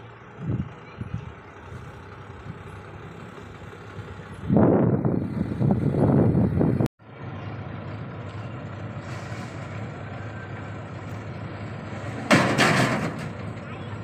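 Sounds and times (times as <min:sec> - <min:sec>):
engine idling: 0:00.0 - 0:14.0
truck engine running rough: 0:00.0 - 0:14.0.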